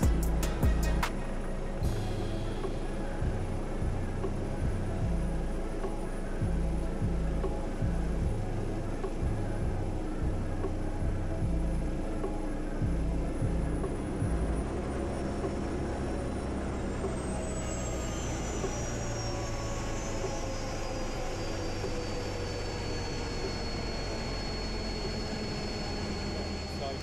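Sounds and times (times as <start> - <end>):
helicopter engine hum and whine: 0.0 - 27.0.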